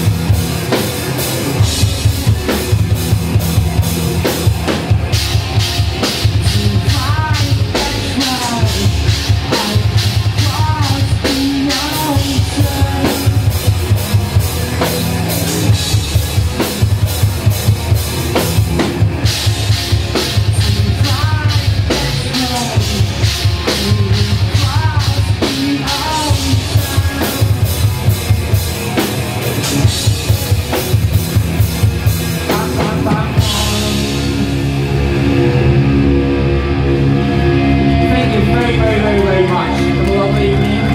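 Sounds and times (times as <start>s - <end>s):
bass drum and snare pattern: 0.0s - 34.5s
live rock band playing: 0.0s - 40.9s.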